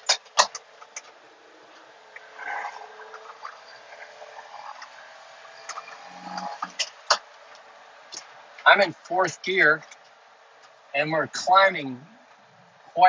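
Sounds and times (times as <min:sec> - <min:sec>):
engine and road hum: 0:00.0 - 0:13.0.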